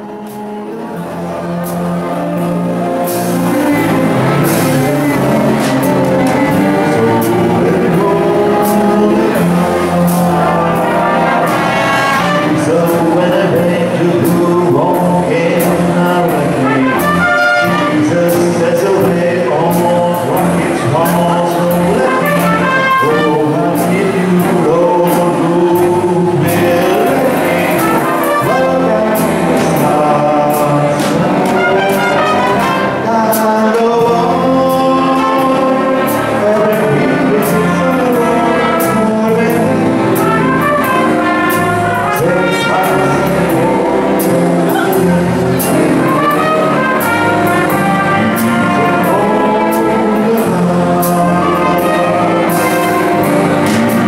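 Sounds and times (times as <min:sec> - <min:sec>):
saxophones: 0:00.0 - 0:19.7, 0:20.3 - 0:54.0
brass section playing: 0:00.0 - 0:54.0
guitar: 0:00.0 - 0:54.0
keyboards: 0:00.0 - 0:54.0.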